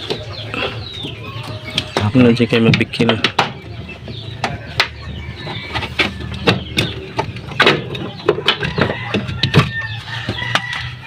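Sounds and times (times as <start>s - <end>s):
hand tools clicking and knocking: 1.4s - 10.9s.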